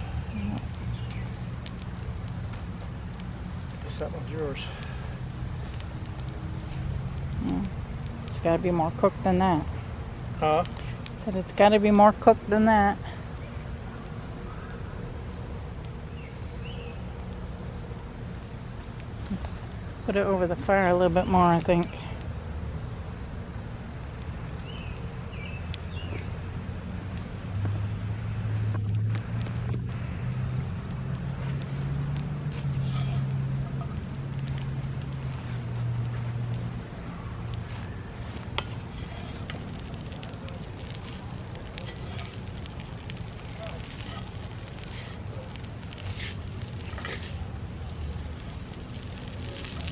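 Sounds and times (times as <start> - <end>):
campfire crackling: 0.0 - 49.9
insects trilling: 0.0 - 49.9.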